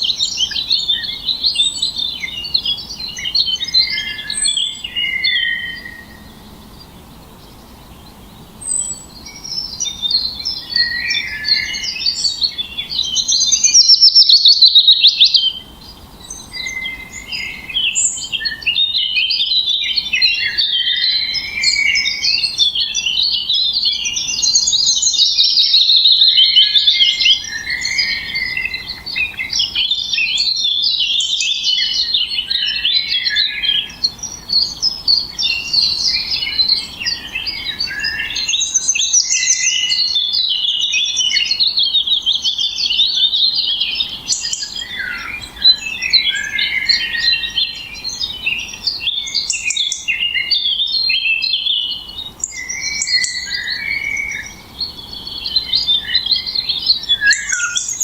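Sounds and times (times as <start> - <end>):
loud fast bird trill: 0.0 - 58.0
songbirds chirping and singing: 0.0 - 58.0.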